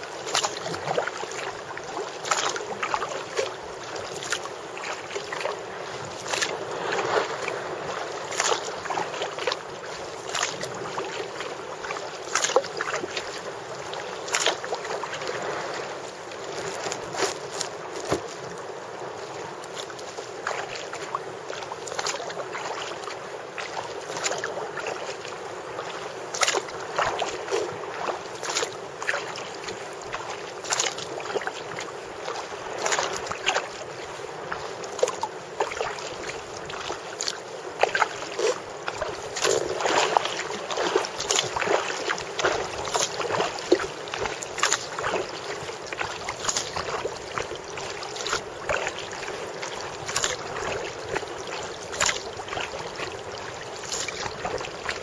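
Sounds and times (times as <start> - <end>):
paddle splashing into water: 0.0 - 55.0
water washing along a hull: 0.0 - 55.0.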